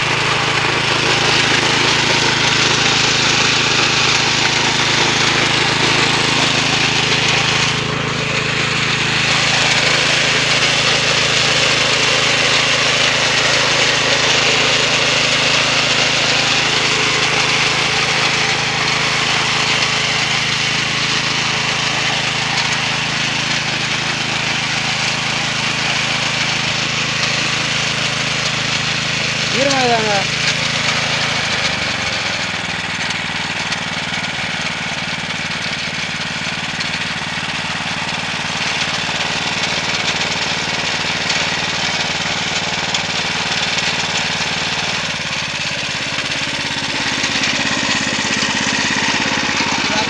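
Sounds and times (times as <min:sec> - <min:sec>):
petrol weeder engine running: 0:00.0 - 0:50.0
rotary tines tilling soil: 0:00.0 - 0:50.0.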